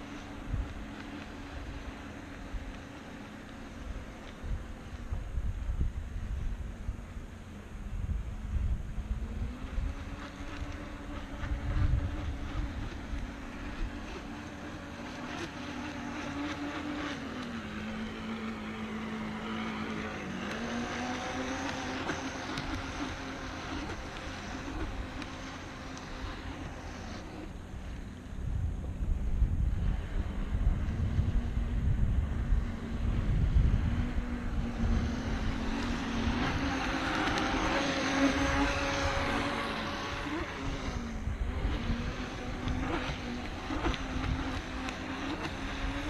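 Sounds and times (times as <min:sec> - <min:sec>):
model boat motor humming: 0:00.0 - 0:46.0
wind rumble on microphone: 0:00.0 - 0:46.0.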